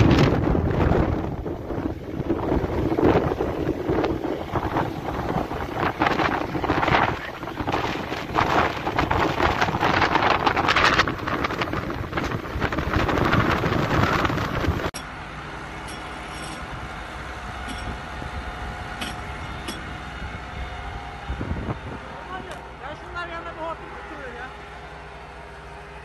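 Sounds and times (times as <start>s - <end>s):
wind buffeting the microphone: 0.0s - 15.0s, 16.6s - 22.5s
steady engine hum: 0.0s - 26.0s.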